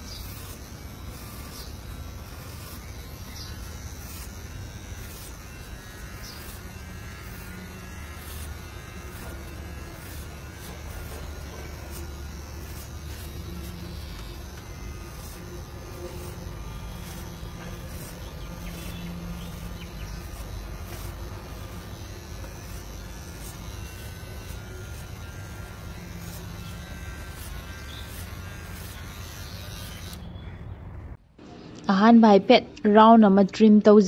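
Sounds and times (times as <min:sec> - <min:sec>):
electric hair clippers buzzing: 0:00.0 - 0:30.6.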